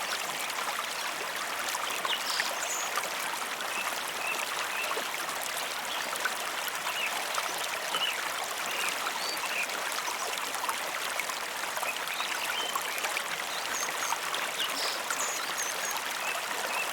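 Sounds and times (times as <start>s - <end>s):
stream of water running: 0.0s - 16.9s.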